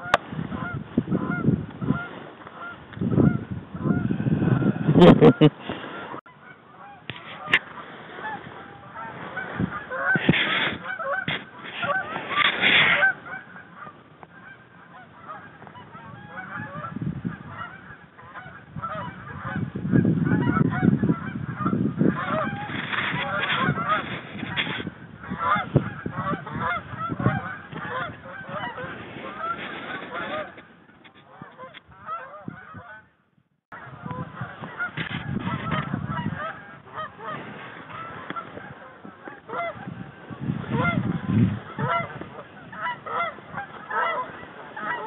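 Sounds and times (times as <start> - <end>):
geese honking and clucking: 0.0 - 45.0.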